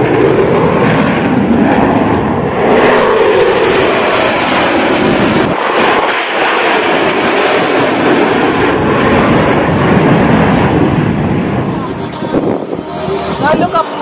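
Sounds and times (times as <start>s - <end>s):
jet engines roaring past: 0.0s - 14.0s.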